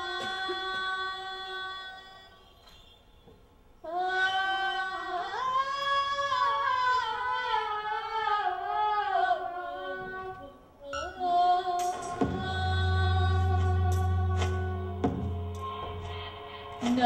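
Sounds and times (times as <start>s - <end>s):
woman singing unaccompanied: 0.0s - 2.5s, 3.8s - 17.0s.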